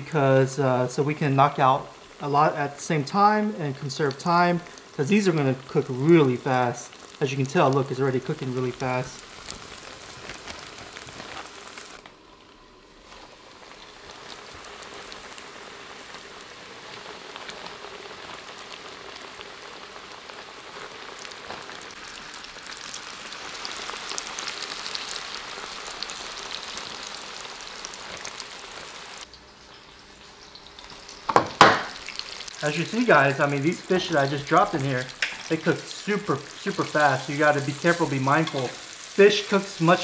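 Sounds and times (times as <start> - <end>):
fish deep-frying in oil: 0.0 - 12.1, 12.9 - 40.0.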